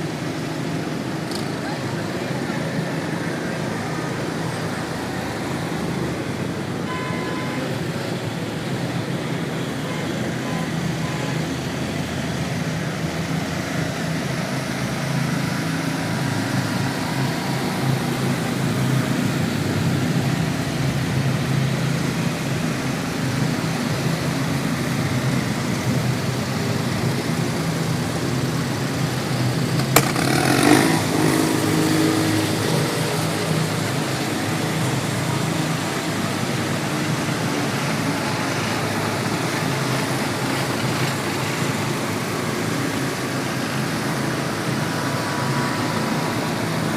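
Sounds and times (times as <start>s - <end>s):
small engines running: 0.0s - 46.9s.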